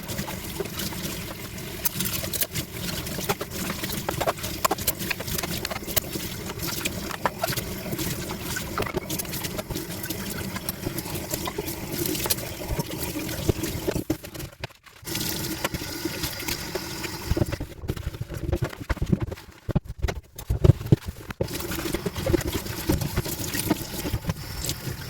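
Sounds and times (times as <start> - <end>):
running water splashing: 0.0 - 14.4, 15.0 - 17.6, 21.4 - 25.0.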